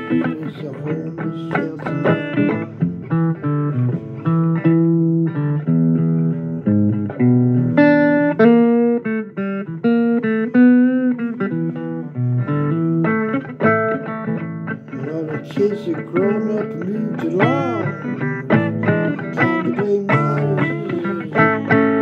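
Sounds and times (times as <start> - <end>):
blues guitar plucked notes: 0.0 - 22.0.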